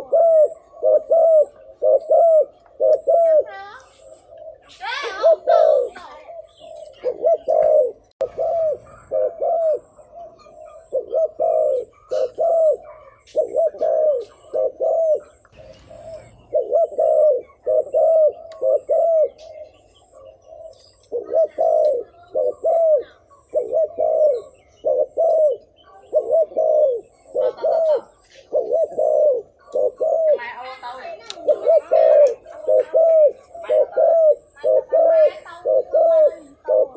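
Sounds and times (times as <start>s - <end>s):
dove cooing rapidly: 0.0s - 36.9s.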